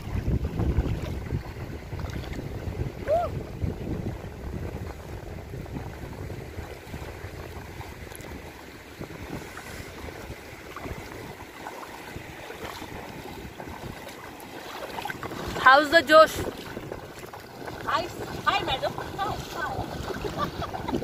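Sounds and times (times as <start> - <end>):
feet wading splashing: 0.0 - 21.0
shallow sea water washing: 0.0 - 21.0
wind buffeting microphone: 0.0 - 21.0.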